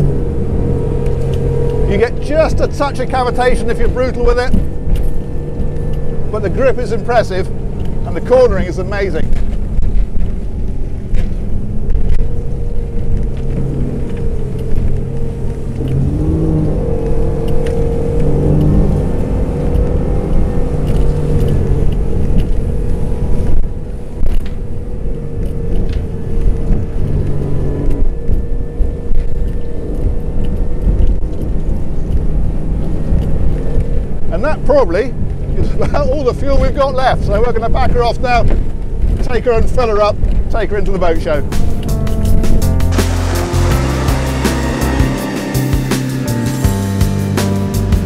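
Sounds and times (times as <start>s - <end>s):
outboard engine running hard: 0.0s - 37.3s, 41.3s - 48.0s
water and wind rushing: 0.0s - 47.0s.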